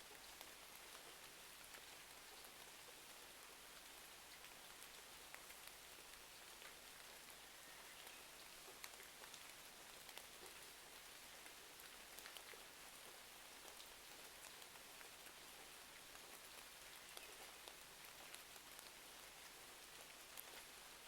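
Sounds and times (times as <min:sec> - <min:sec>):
faint rain hiss: 0:00.0 - 0:21.0.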